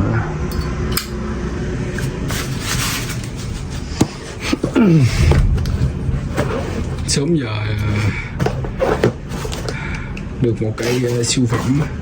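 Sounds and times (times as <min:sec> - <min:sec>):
low background rumble: 0:00.0 - 0:10.8.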